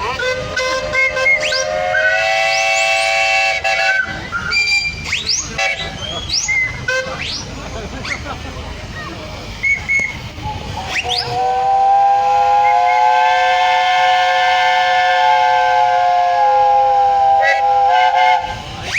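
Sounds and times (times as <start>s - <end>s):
steam engine whistles: 0.0s - 8.3s, 9.5s - 18.9s
steam hissing: 0.0s - 18.9s.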